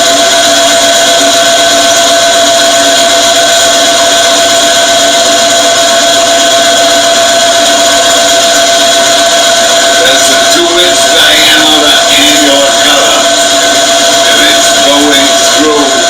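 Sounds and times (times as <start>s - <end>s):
drilling machine whine: 0.0s - 16.0s.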